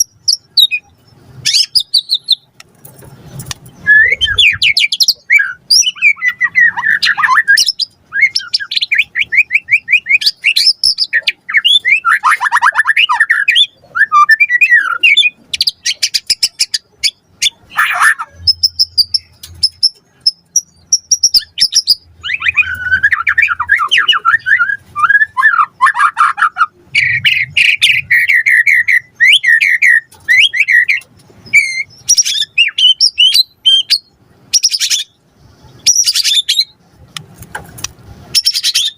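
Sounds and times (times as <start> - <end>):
songbird singing trills and whistles: 0.0 - 2.5, 3.4 - 36.8, 38.3 - 38.9.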